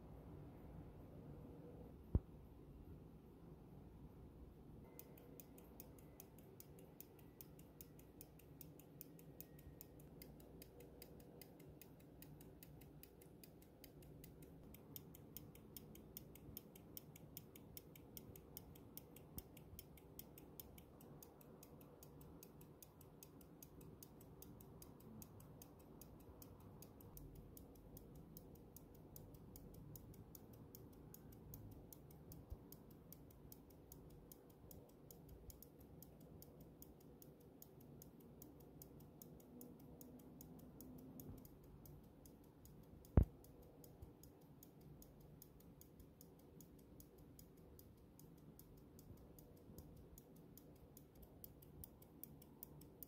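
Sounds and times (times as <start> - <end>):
pocket watch ticking: 4.8 - 53.0.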